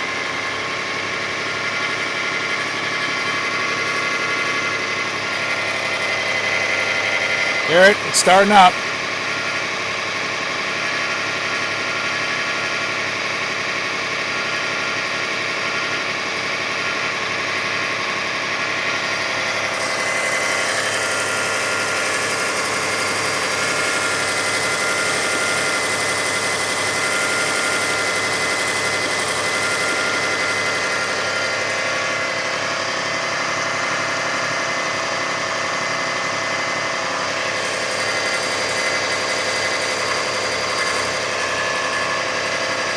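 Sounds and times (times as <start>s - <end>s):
car engine high idling: 0.0s - 42.9s.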